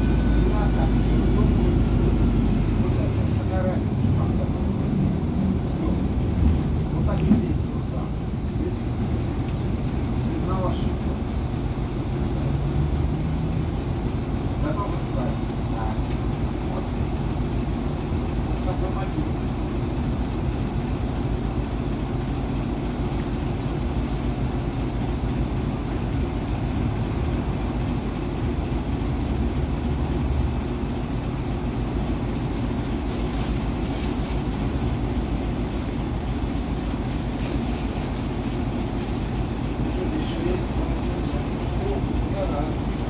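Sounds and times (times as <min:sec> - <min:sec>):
bus engine idling: 0:00.0 - 0:43.0.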